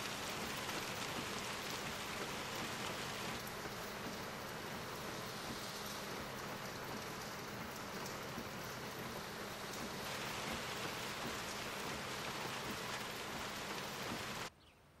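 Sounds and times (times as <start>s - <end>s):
heavy rain pouring: 0.0s - 14.5s.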